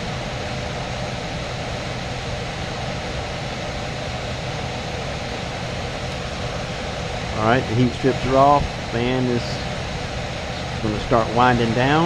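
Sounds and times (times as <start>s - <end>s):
blower rushing air: 0.0s - 12.0s
low hum: 0.0s - 12.0s.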